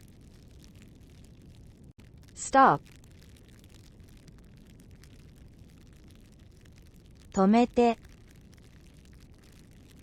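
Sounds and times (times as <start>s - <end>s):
campfire low rumble: 0.0s - 10.0s
crackles and pops of burning wood: 0.0s - 10.0s.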